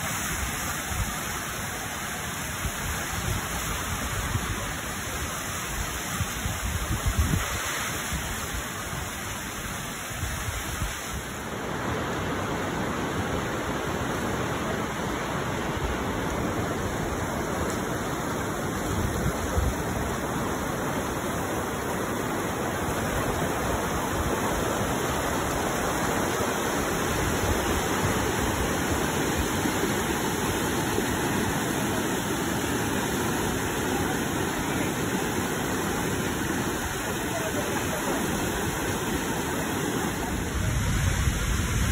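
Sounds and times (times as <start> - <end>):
river rushing through rapids: 0.0 - 41.9.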